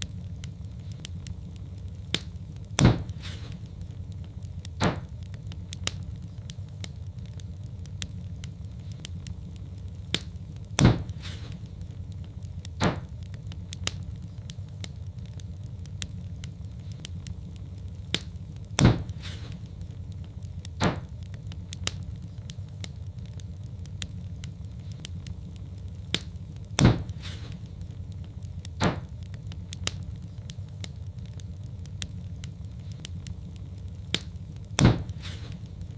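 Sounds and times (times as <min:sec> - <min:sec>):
loud fire pops: 0:00.0 - 0:35.9
steady low rumble: 0:00.0 - 0:35.9
wood fire crackling: 0:00.0 - 0:35.9.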